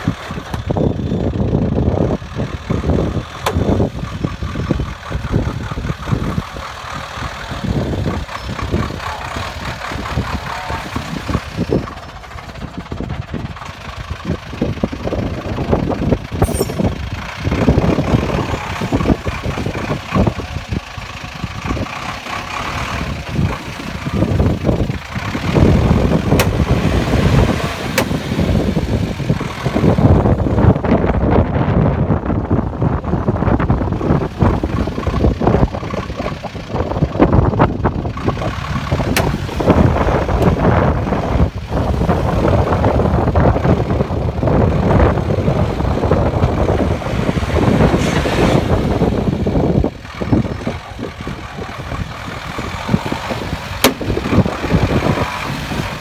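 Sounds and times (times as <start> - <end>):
truck engine revving: 0.0 - 56.0
tyres churning in mud: 0.0 - 56.0.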